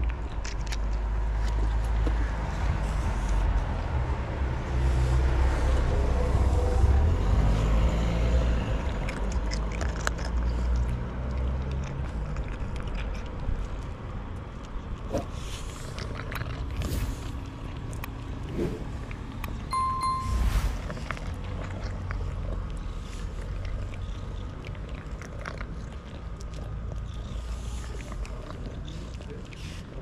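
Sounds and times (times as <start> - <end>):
cat crunching dry kibble: 0.0 - 4.2, 8.5 - 19.6, 21.0 - 30.0.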